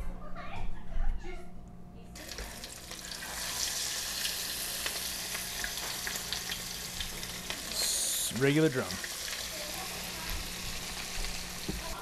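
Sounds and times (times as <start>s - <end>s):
fish frying in hot oil: 2.2s - 12.0s.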